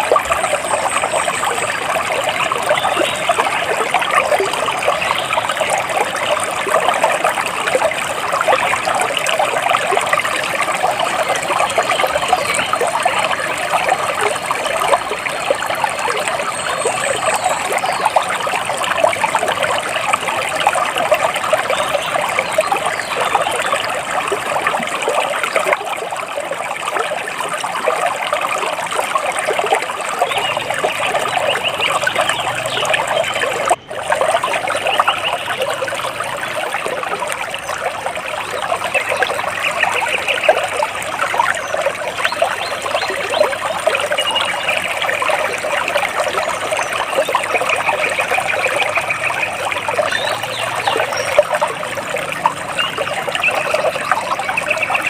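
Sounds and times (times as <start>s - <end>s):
water splashing and trickling: 0.0s - 55.0s.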